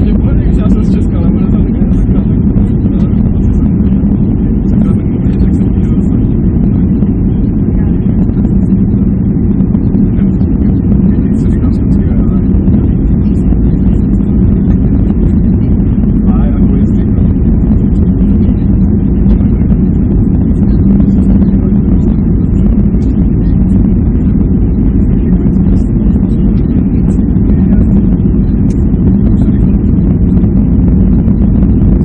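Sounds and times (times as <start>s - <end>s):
jet airliner cabin rumble: 0.0s - 32.0s.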